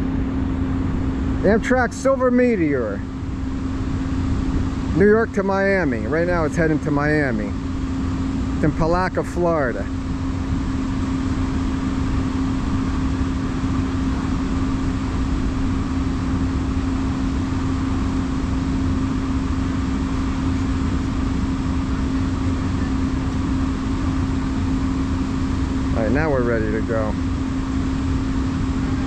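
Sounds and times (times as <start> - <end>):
idling train hum: 0.0 - 29.0.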